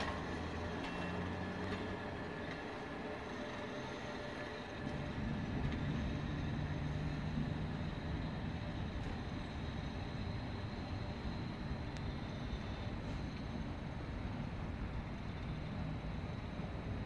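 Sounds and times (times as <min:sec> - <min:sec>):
distant locomotive: 0:00.0 - 0:17.0
train wheels rumbling: 0:00.0 - 0:17.0.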